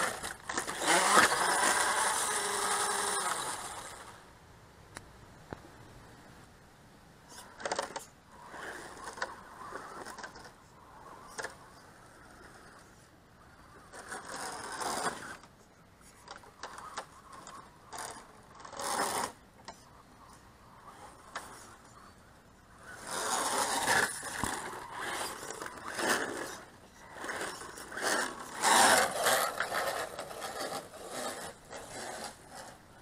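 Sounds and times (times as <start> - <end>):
toy truck motor whining: 0.0 - 4.2, 7.4 - 15.5, 16.2 - 33.0
tyres scraping loose soil: 0.0 - 4.2, 7.2 - 33.0.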